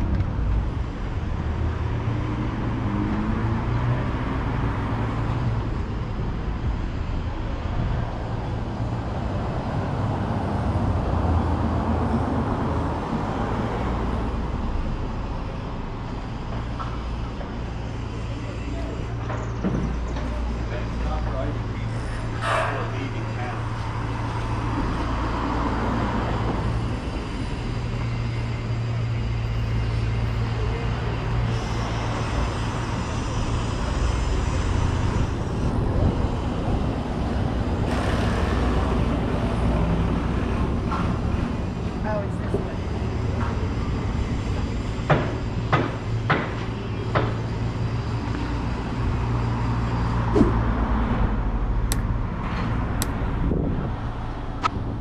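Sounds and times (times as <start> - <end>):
low mechanical drone: 0.0 - 55.0
low street rumble: 0.0 - 55.0.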